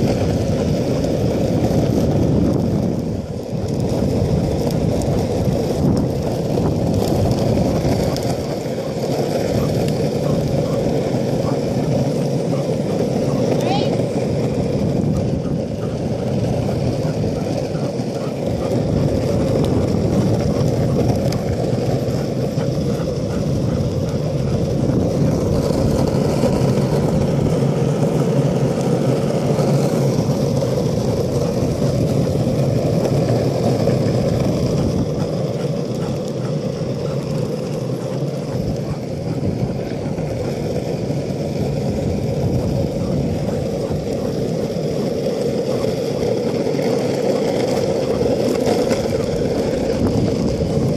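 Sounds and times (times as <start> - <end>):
longboard wheels rolling on asphalt: 0.0 - 50.9.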